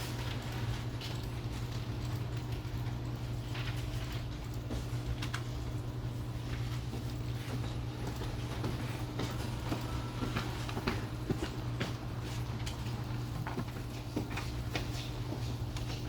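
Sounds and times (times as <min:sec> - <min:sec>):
low office hum: 0:00.0 - 0:16.0.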